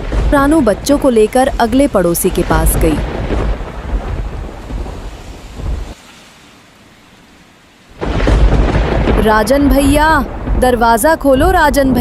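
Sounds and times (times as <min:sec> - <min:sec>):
low thunder rumble: 0:00.0 - 0:06.0, 0:07.9 - 0:12.0
rain hiss: 0:00.0 - 0:11.8.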